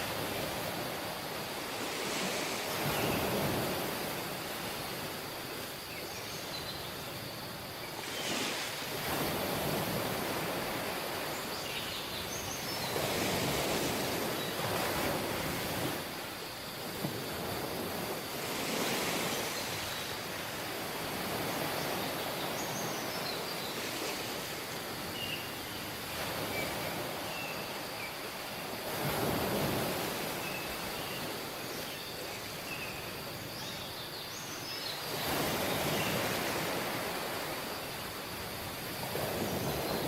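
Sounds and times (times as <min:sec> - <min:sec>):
waves washing on beach: 0:00.0 - 0:05.8, 0:06.9 - 0:33.6, 0:34.5 - 0:40.0.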